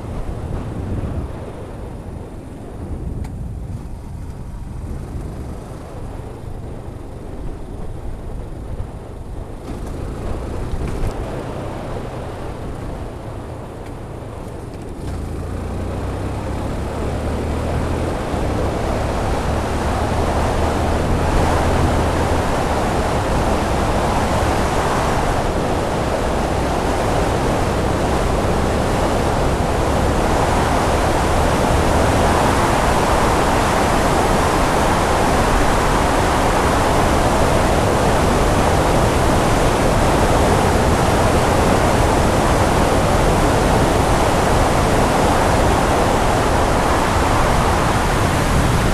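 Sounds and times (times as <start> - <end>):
motorcycle engine hum: 0.0 - 48.9
wind rushing over microphone: 0.0 - 48.9.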